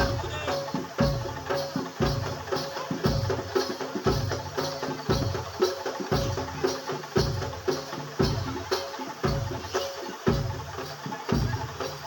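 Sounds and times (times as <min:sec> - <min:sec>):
heavy low drum beat: 0:00.0 - 0:11.8.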